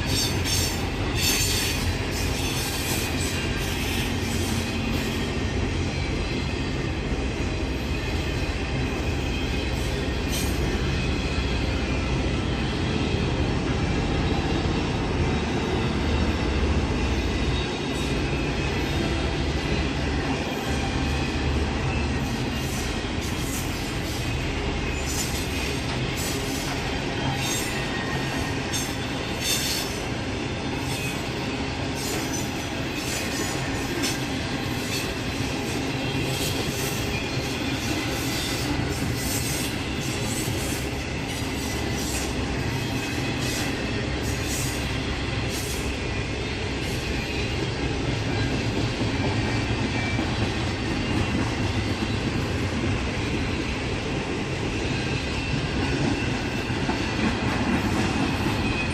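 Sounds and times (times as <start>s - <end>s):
train cars rumbling past: 0.0s - 58.9s.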